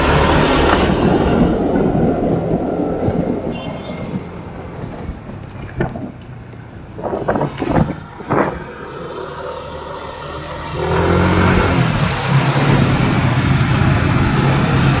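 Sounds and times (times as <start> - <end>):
scooter engine: 0.0 - 15.0
wind and road noise: 0.0 - 15.0.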